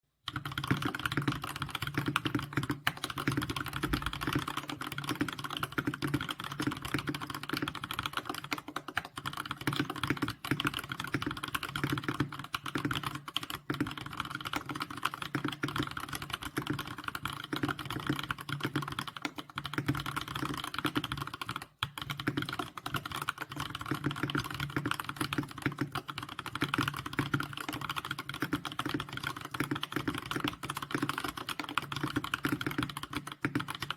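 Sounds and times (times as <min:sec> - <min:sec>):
mechanical keyboard typing: 0:00.3 - 0:33.9.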